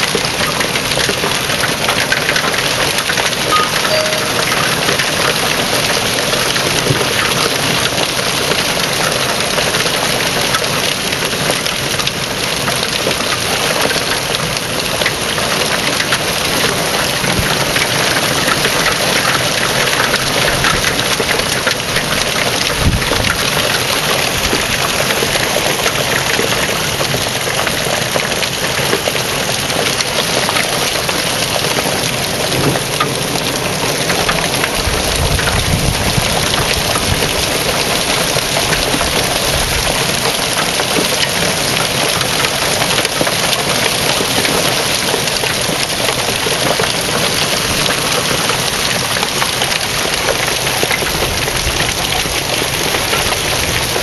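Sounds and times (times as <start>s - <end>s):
hail clattering on hard surfaces: 0.0s - 54.0s.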